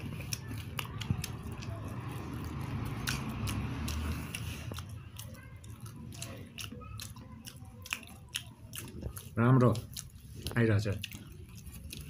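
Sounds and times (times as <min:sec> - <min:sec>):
person chewing crunchy rice: 0:00.0 - 0:12.0.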